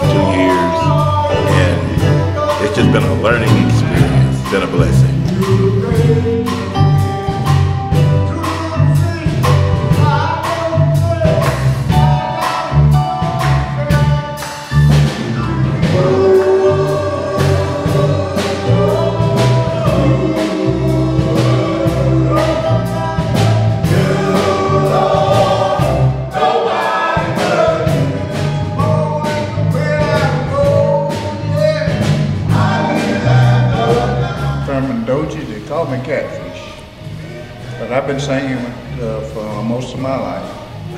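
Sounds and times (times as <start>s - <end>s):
steady drum beat: 0.0s - 35.4s
bass guitar: 0.0s - 40.9s
male group singing gospel: 0.0s - 40.9s.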